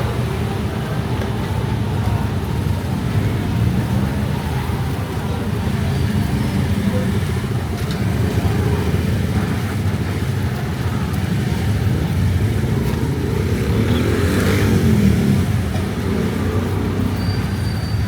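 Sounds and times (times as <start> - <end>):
car and motorcycle engines: 0.0 - 18.0.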